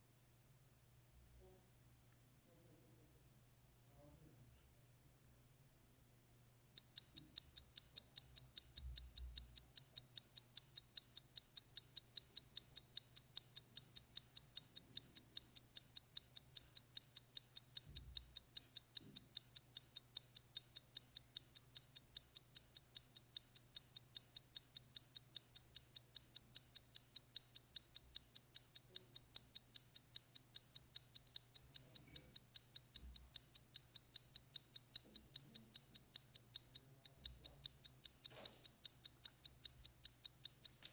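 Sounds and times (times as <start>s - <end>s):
fast timer ticking: 6.7s - 40.9s.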